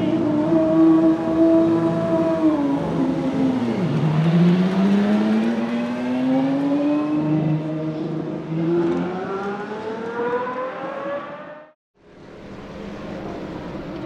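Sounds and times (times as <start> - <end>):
race car engine accelerating: 0.0 - 11.8.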